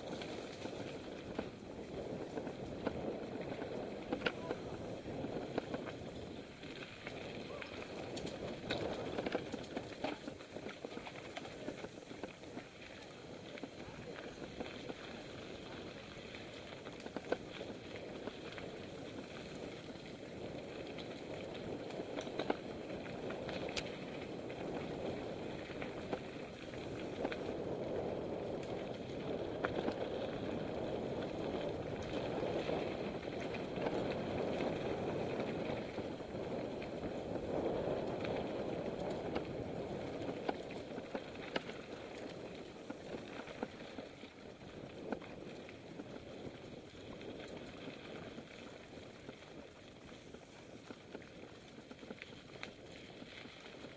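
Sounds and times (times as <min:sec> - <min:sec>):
bike clicks and rattles: 0:00.0 - 0:53.9
bike tyres rolling on dirt: 0:00.0 - 0:53.9.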